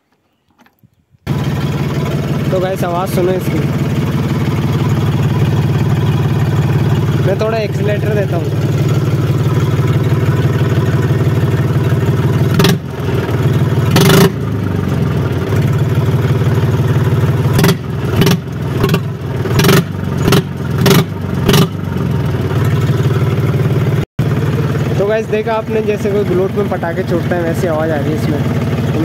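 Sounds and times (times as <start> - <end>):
diesel tractor engine running: 1.3 - 29.0
exhaust bangs on throttle blips: 1.3 - 29.0.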